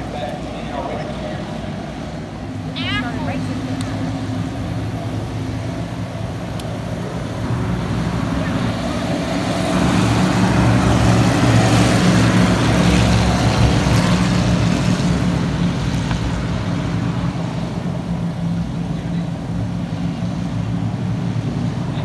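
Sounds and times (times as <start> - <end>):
race cars engines droning: 0.0 - 22.0.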